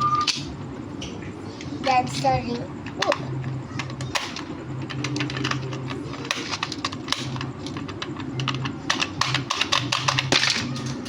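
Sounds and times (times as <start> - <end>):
low hum: 0.0 - 11.0
fidget toy buttons clicking: 1.8 - 10.9.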